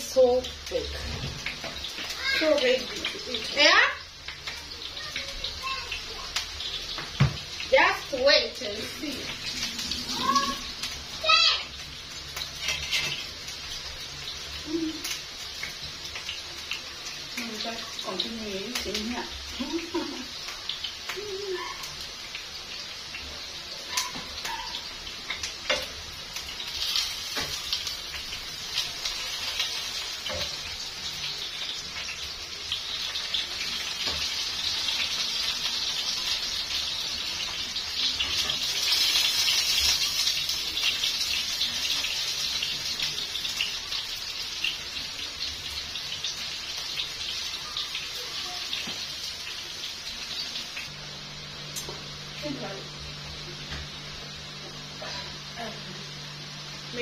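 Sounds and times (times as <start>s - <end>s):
chips sizzling in hot oil: 0.0s - 57.0s.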